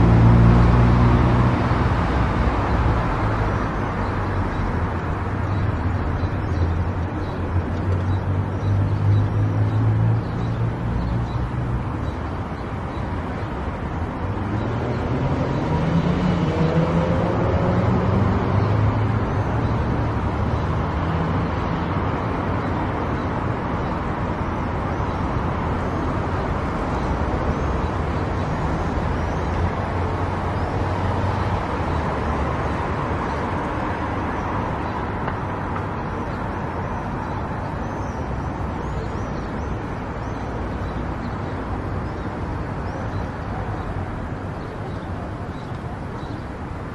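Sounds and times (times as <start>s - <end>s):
tyre noise on road: 0.0s - 46.9s.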